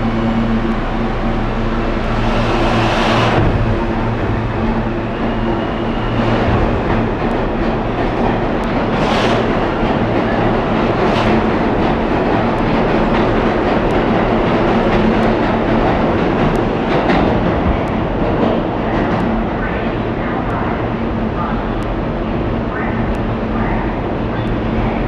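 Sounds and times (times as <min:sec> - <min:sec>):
subway train wheels rumbling: 0:00.0 - 0:25.0.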